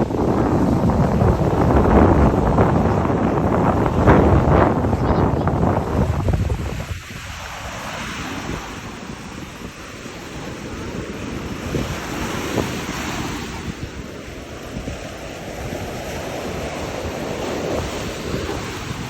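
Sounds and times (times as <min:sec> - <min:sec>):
sea waves washing ashore: 0:00.0 - 0:19.0
wind buffeting microphone: 0:00.0 - 0:19.0.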